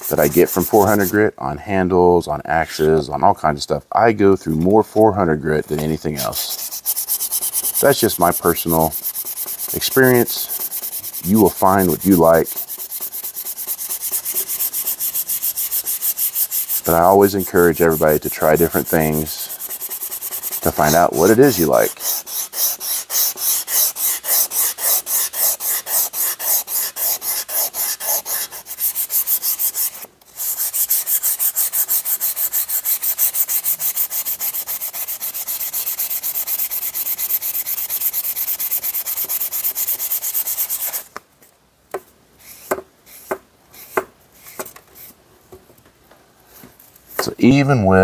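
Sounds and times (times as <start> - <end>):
hand sanding steel: 0.0 - 1.2, 4.6 - 41.1, 42.4 - 45.2.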